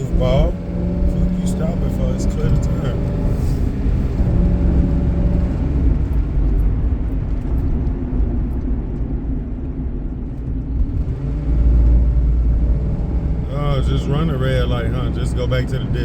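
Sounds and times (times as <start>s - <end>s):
car engine deep rumble: 0.0s - 16.0s.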